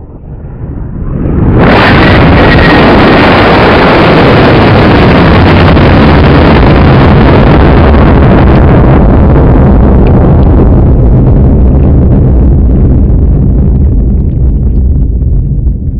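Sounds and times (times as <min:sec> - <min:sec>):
rocket motor roaring: 0:00.7 - 0:15.9.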